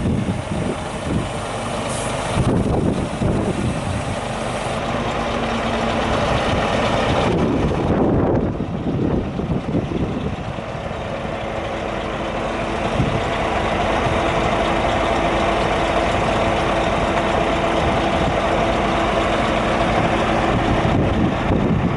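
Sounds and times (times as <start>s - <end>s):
diesel truck engine idling: 0.0s - 21.9s.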